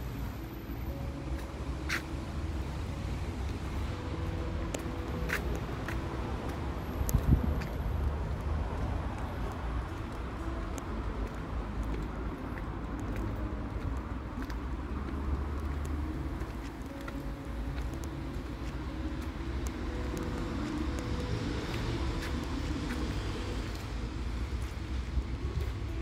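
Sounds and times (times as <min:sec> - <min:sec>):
low rumble of road traffic: 0:00.0 - 0:26.0.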